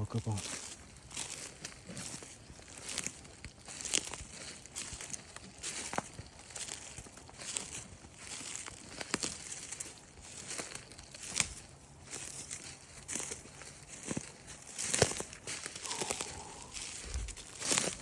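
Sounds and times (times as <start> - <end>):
soft rustling and crinkling: 0.0 - 18.0.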